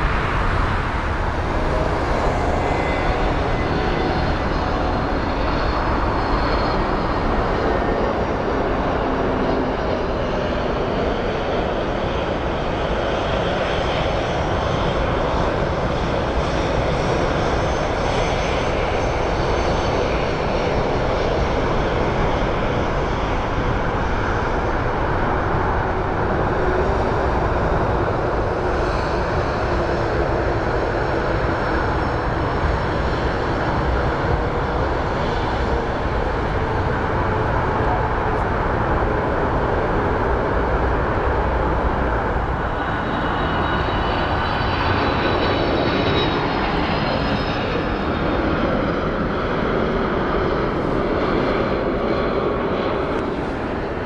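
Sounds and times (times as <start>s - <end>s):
jet engine of landing airliner: 0.0s - 54.0s.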